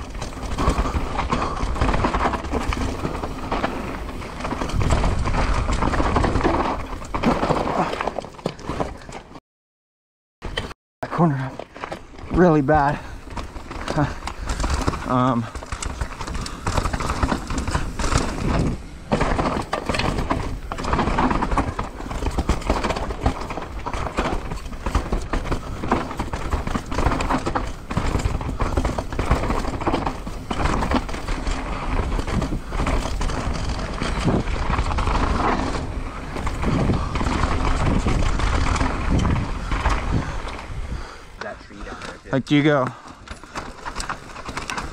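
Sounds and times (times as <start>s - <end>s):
bike chain and frame rattling: 0.0s - 9.2s, 11.2s - 44.9s
tyres running over dirt: 0.0s - 9.4s, 10.5s - 44.9s.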